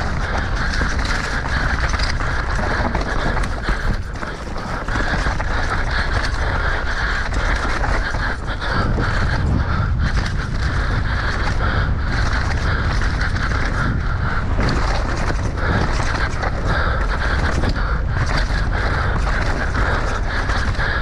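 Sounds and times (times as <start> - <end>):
bike rattling over bumps: 0.0 - 21.0
tyres rolling over dirt and rock: 0.0 - 21.0
wind rushing on microphone: 0.0 - 21.0.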